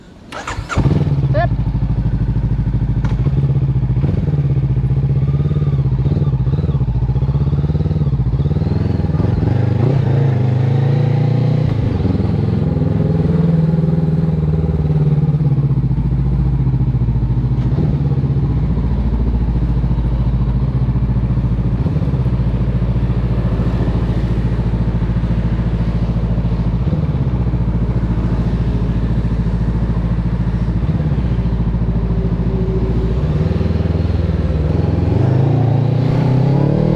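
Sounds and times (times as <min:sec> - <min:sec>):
motorcycle engine idling: 0:00.3 - 0:09.4, 0:13.6 - 0:35.0.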